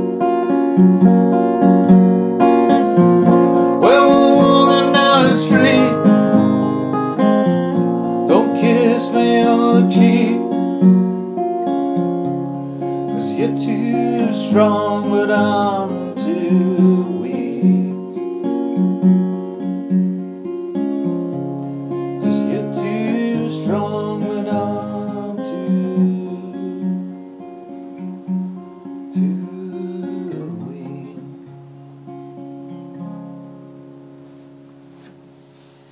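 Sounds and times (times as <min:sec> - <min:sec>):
acoustic guitar strumming chords: 0:00.0 - 0:35.9.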